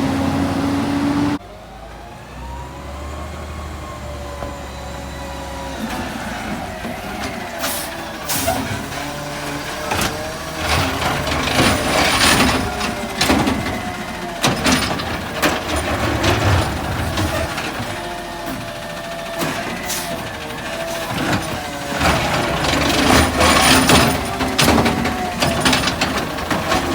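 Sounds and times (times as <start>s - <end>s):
garbage truck engine running: 0.0s - 26.9s.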